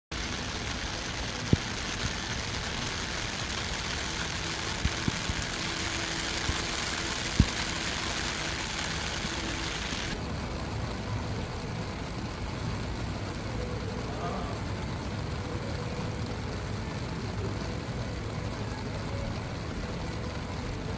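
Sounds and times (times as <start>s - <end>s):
heavy rain hissing: 0.1s - 20.9s
raindrops tapping close by: 0.1s - 20.9s.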